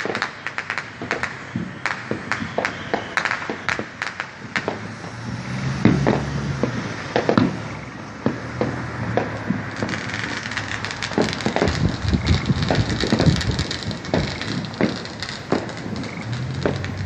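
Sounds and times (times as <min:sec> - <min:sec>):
fireworks bangs: 0:00.0 - 0:17.0
fireworks crackle: 0:00.0 - 0:17.0.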